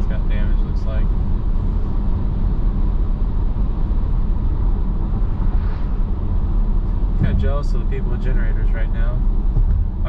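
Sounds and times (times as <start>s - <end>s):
car engine drone: 0.0s - 10.0s
road and tyre rumble: 0.0s - 10.0s.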